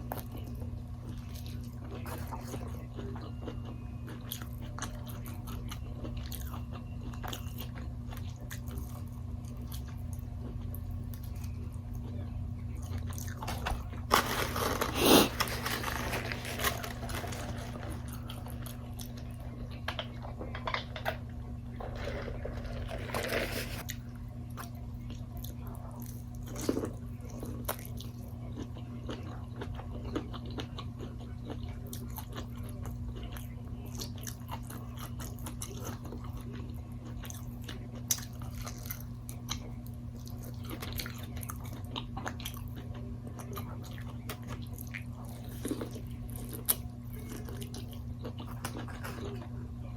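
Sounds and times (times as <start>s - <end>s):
chewing: 0.0s - 20.9s, 21.9s - 49.7s
steady low hum: 0.0s - 49.9s.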